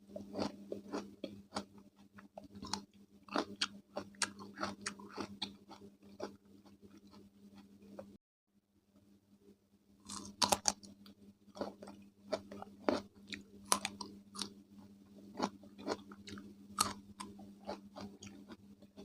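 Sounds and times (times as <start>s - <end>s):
chewing crunchy cucumber: 0.1s - 8.1s, 10.0s - 14.6s, 15.2s - 19.0s.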